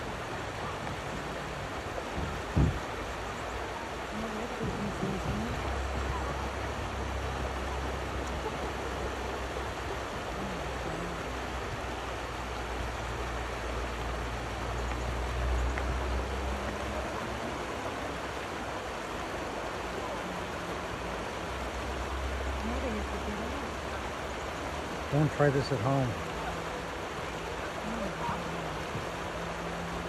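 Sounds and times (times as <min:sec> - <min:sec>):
river rapids rushing over rocks: 0:00.0 - 0:30.0.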